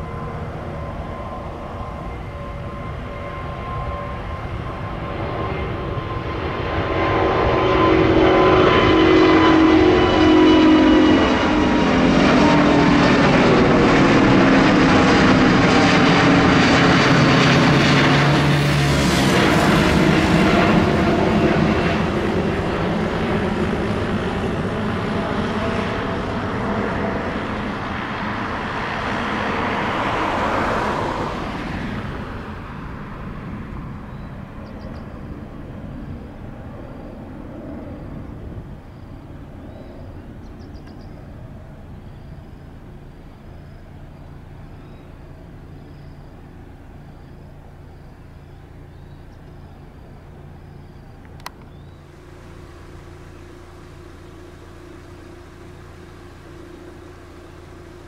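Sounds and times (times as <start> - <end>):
airliner engines roaring: 0.0 - 58.0.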